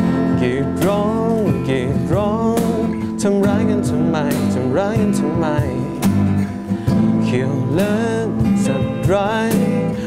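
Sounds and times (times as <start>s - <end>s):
keyboard: 0.0s - 10.0s
person singing: 0.0s - 10.0s
strummed acoustic guitar: 0.0s - 10.0s.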